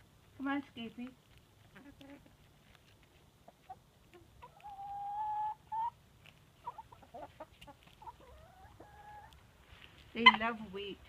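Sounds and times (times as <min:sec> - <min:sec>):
chickens clucking: 0:01.4 - 0:10.9.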